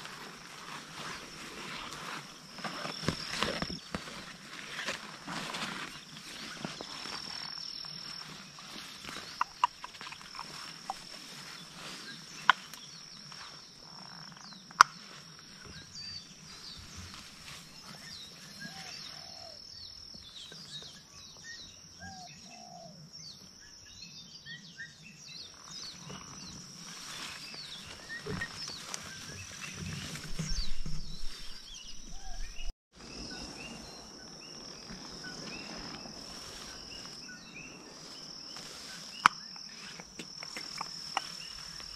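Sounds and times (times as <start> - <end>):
vines rustling: 0.0 - 19.3, 25.6 - 41.9
high insect trill: 0.0 - 24.2, 25.0 - 41.9.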